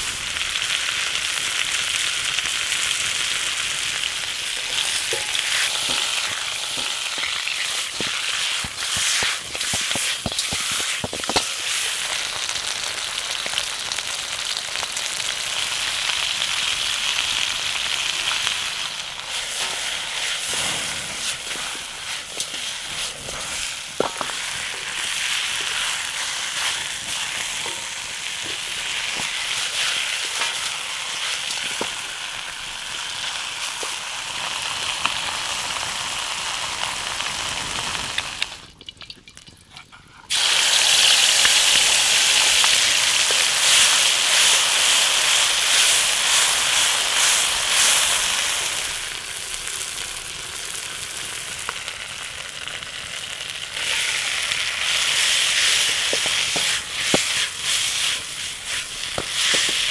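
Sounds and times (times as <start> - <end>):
chicken sizzling in oil: 0.0 - 38.8, 39.8 - 59.9.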